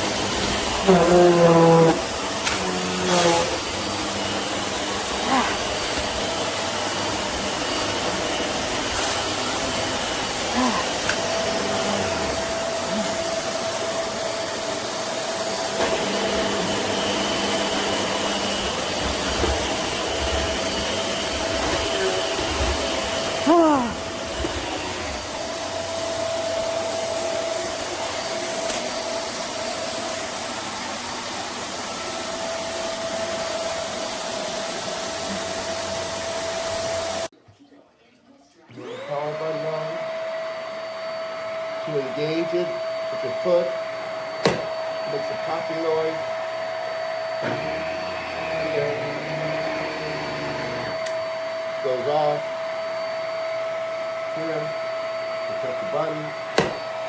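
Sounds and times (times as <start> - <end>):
vacuum cleaner running: 0.0 - 37.4, 38.7 - 57.0.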